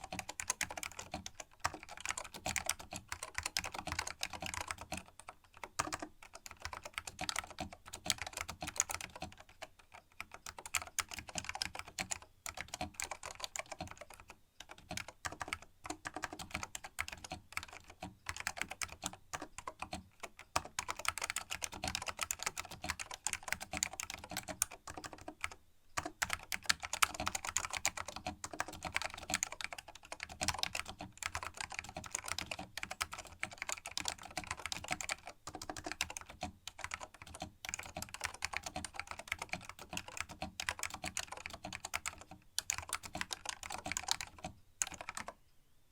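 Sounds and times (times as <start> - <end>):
keyboard typing clatter: 0.0 - 45.4.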